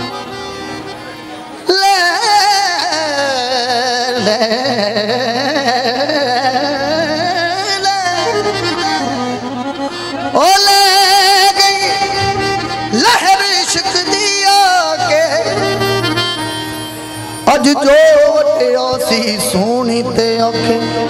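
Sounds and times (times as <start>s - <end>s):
keyboard accompaniment: 0.0s - 21.0s
man singing long vowel notes: 1.6s - 16.4s, 17.4s - 21.0s.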